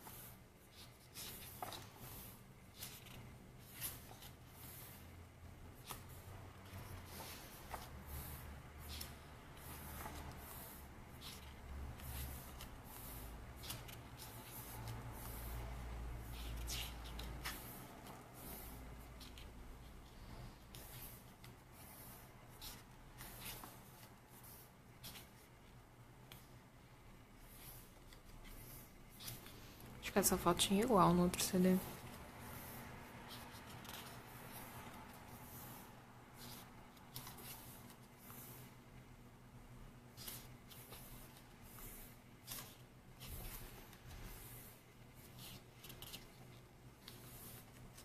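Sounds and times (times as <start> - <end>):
paper pages rustling: 0.0 - 4.9, 5.8 - 15.5, 16.2 - 25.6, 31.9 - 38.7, 40.1 - 48.0.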